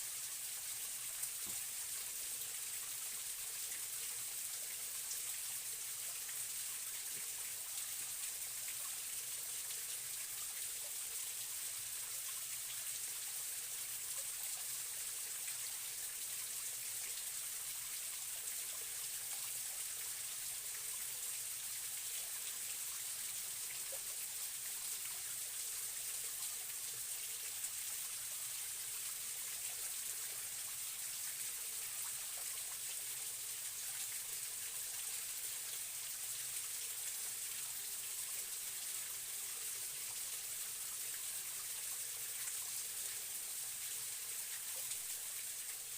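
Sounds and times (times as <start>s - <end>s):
stream flowing: 0.0s - 45.9s.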